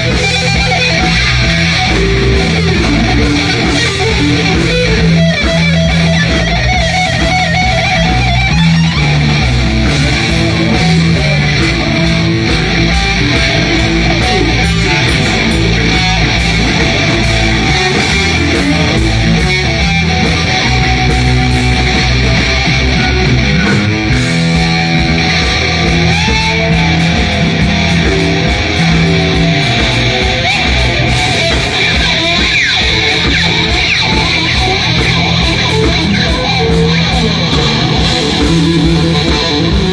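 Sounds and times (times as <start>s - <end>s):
electric guitar: 0.0s - 39.9s
walking bass line: 0.0s - 39.9s.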